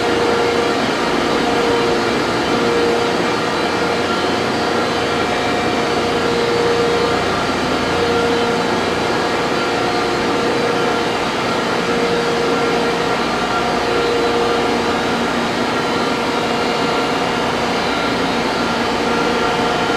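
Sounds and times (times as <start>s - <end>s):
industrial machinery humming: 0.0s - 19.9s.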